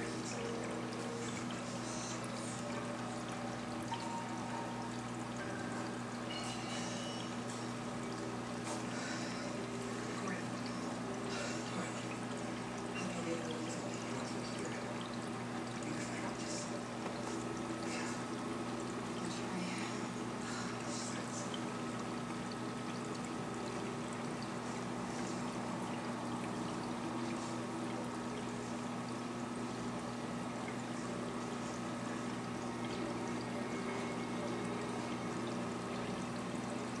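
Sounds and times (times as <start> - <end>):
water pouring and trickling: 0.0 - 37.0.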